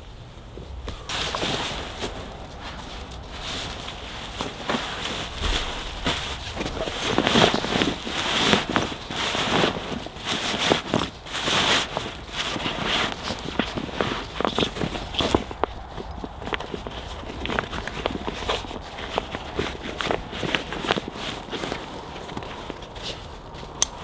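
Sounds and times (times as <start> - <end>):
nylon jacket rustling: 0.0 - 24.0.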